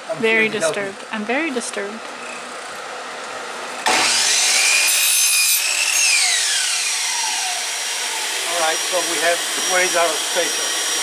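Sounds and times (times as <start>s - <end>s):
miter saw whining and cutting wood: 2.0s - 11.0s.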